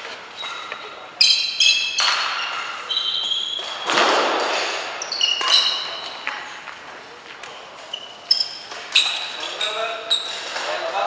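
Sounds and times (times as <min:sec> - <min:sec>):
shoes squeaking on floor: 0:00.0 - 0:11.0.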